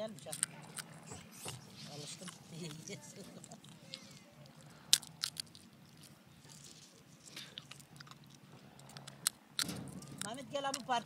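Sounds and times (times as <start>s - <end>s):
person chewing and crunching: 0.0s - 10.9s.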